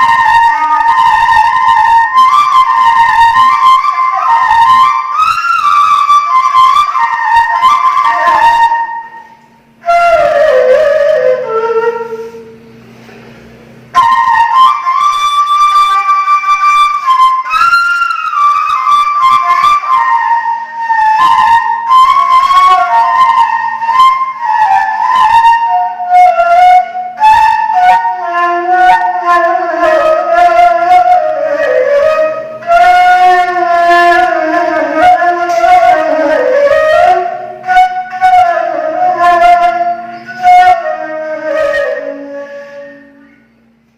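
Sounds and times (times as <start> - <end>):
breathy reed flute melody: 0.0 - 12.7, 13.9 - 43.8.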